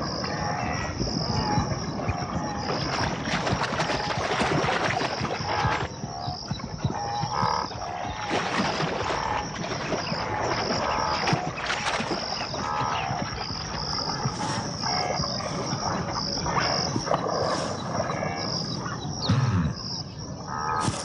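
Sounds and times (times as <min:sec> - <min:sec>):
animal calls: 0:00.0 - 0:21.0
insects chirping: 0:00.0 - 0:21.0
herd splashing through water: 0:01.2 - 0:18.9.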